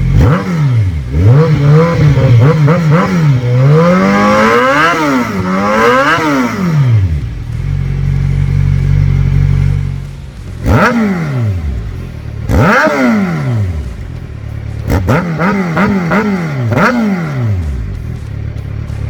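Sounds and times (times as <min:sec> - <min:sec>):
motorcycle engine idling: 0:00.0 - 0:19.0
motorcycle engine revving: 0:00.0 - 0:19.0.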